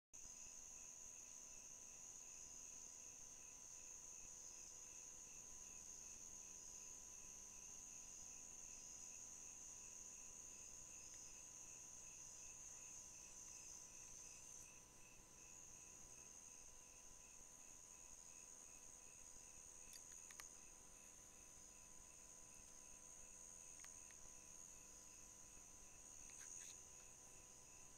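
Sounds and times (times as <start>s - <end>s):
crickets high-pitched drone: 0.2s - 27.9s
low rhythmic insect chirping: 0.2s - 27.9s.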